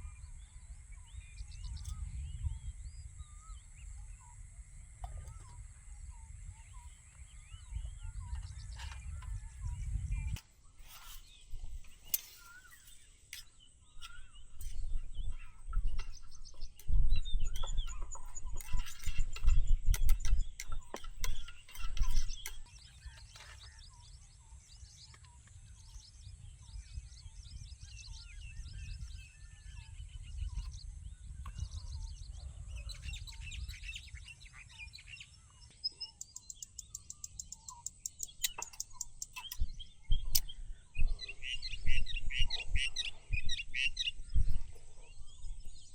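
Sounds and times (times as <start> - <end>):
birds chirping and calling: 0.0 - 45.9
ticking bird calls: 5.0 - 26.7, 28.0 - 44.9.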